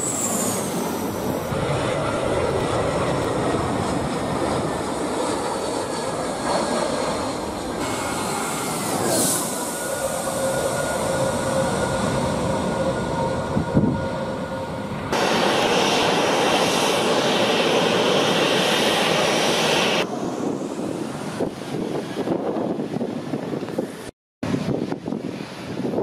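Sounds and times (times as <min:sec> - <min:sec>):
jet engines whining: 0:00.0 - 0:24.1.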